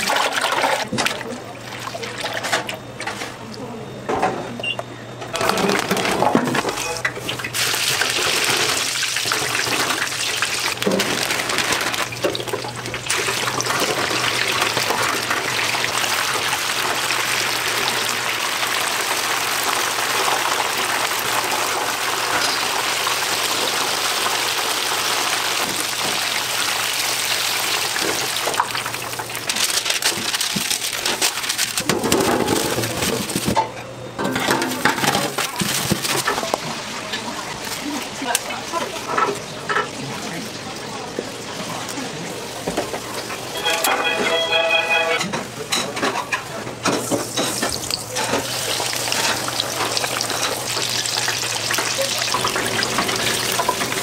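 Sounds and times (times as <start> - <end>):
oil sizzling in deep fryer: 5.6 - 33.6, 34.2 - 45.1, 45.8 - 54.0.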